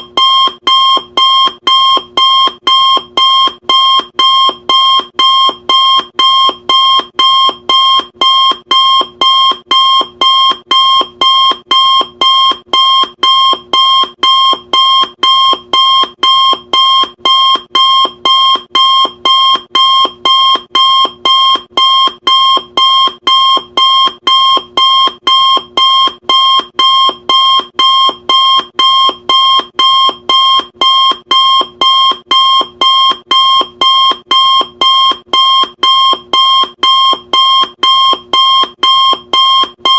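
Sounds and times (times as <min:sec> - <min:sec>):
timer alarm beeping: 0:00.0 - 0:39.9.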